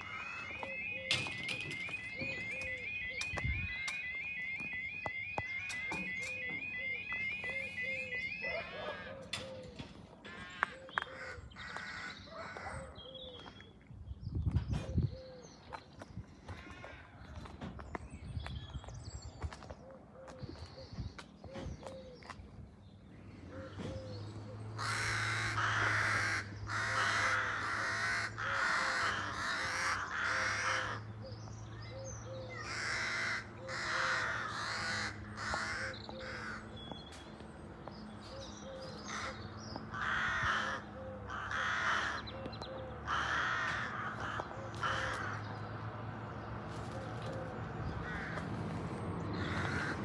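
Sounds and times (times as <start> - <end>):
harsh bird calls: 0.0 - 50.0.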